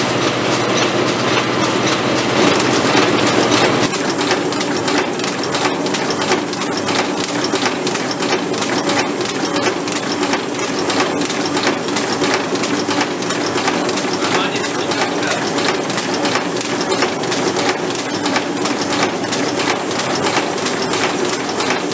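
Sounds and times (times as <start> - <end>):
machine clattering with rapid clicks: 0.0 - 21.9.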